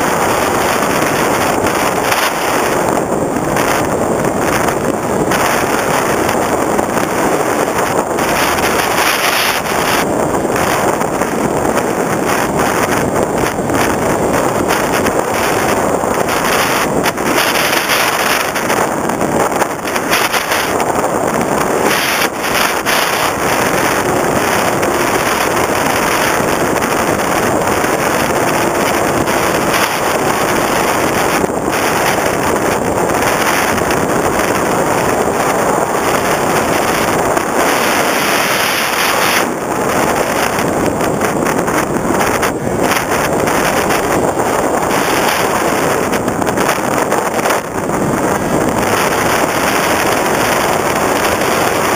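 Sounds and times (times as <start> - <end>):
loud airflow rush: 0.0 - 51.9.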